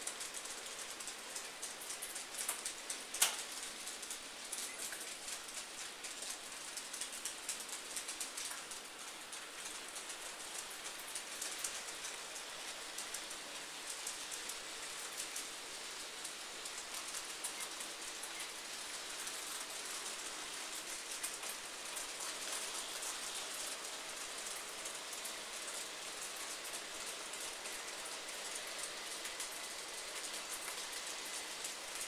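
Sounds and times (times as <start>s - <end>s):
model train wheels crackling on rails: 0.0s - 32.0s.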